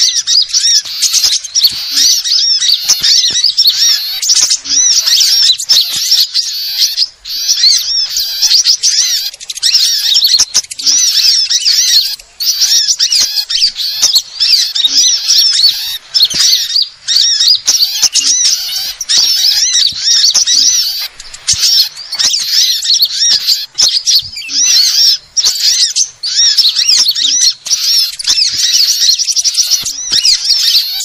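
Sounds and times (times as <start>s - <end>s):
songbirds twittering: 0.0s - 31.0s.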